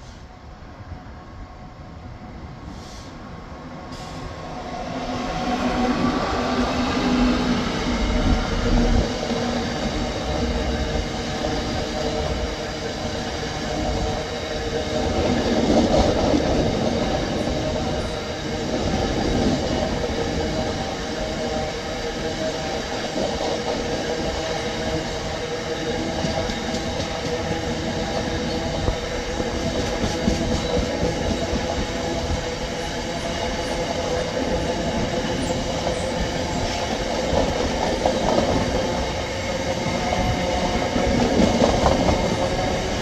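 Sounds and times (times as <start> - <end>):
diesel locomotive passing: 0.0 - 43.0
train wheels rumbling on rails: 2.6 - 43.0.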